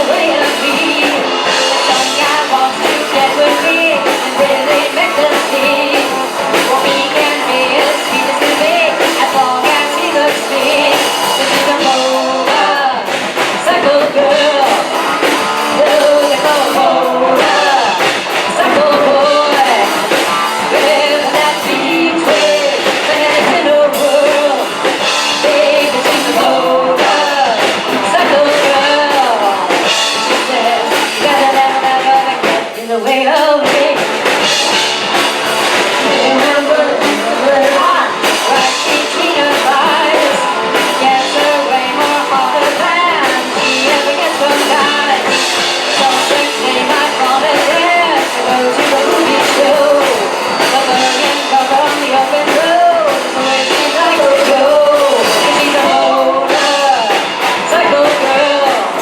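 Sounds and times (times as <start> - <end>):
live rock band playing: 0.0 - 59.0
person singing: 0.0 - 59.0.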